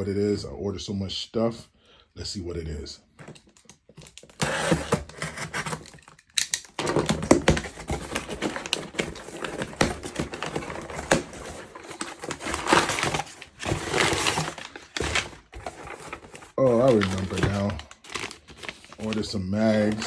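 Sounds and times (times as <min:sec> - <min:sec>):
cardboard box being unpacked: 0:03.2 - 0:20.0.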